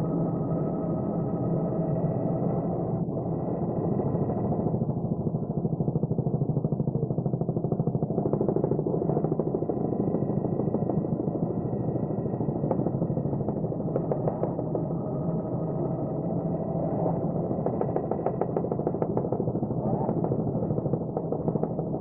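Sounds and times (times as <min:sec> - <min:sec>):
high engine whine: 0:00.0 - 0:22.0.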